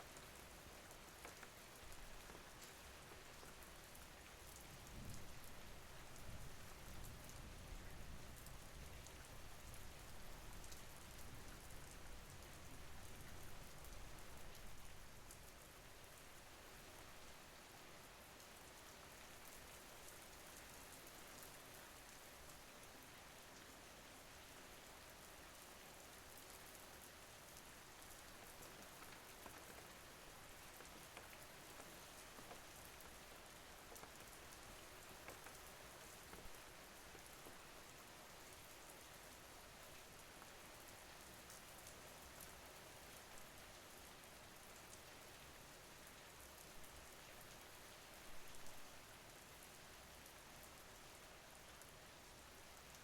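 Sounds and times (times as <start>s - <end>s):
faint rain falling: 0.0s - 53.0s.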